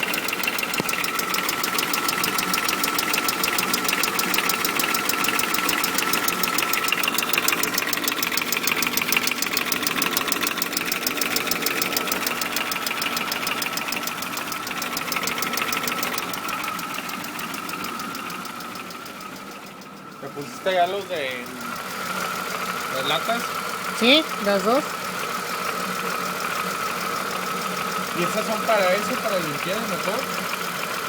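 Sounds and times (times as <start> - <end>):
car engine running: 0.0 - 31.0
rapid engine ticking: 0.0 - 31.0.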